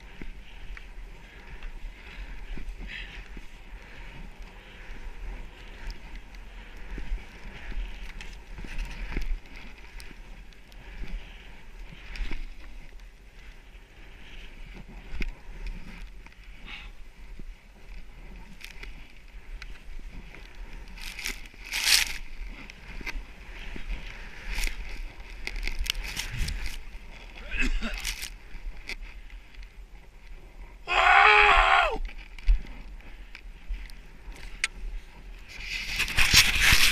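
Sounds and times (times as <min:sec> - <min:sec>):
wind rumble on microphone: 0:00.0 - 0:36.9.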